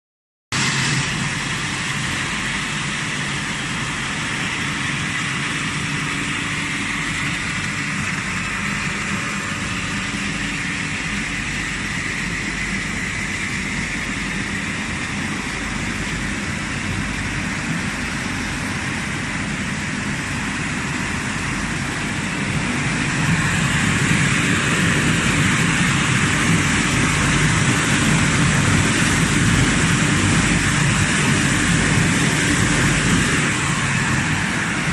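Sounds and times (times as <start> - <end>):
washing machine running: 0.5 - 34.9
spraying water: 0.6 - 34.9.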